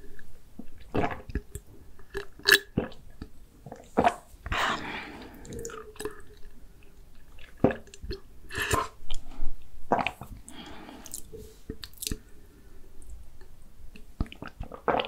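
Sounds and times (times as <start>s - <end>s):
person gulping and swallowing: 0.0s - 9.3s, 9.9s - 12.3s, 13.1s - 15.0s.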